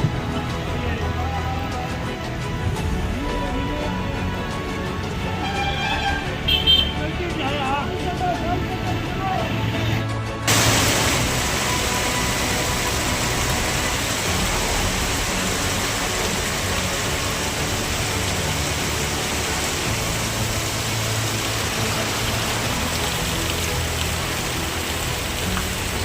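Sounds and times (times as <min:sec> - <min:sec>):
heavy rain falling: 0:00.0 - 0:09.4, 0:10.0 - 0:26.0.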